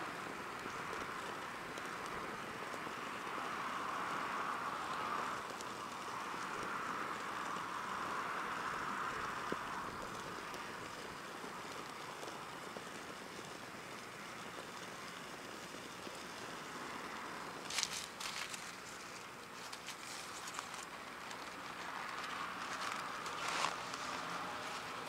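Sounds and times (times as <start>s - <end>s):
wind: 0.0s - 25.0s
wood fire crackling: 0.0s - 25.0s.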